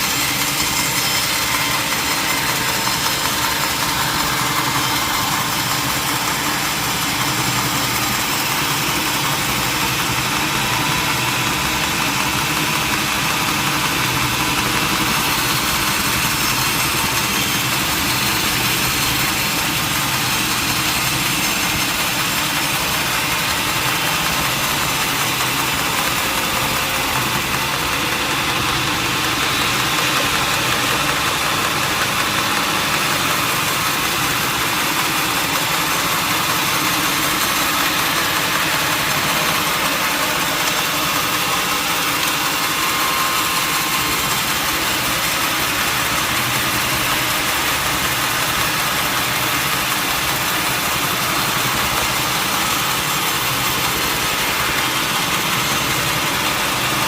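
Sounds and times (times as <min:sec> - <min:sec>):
sawmill saw droning: 0:00.0 - 0:57.0.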